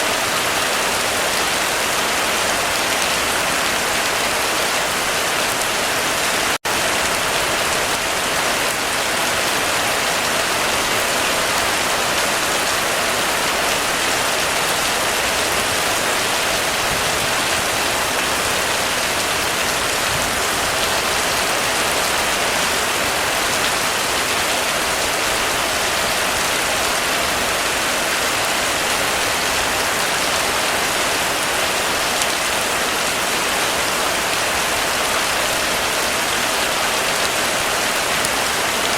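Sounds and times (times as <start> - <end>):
heavy rain on a roof: 0.0 - 38.9.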